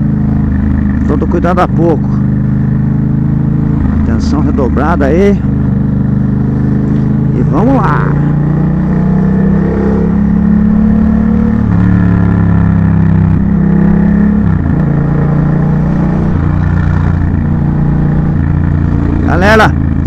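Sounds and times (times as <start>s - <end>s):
motorcycle engine under throttle: 0.0s - 20.0s.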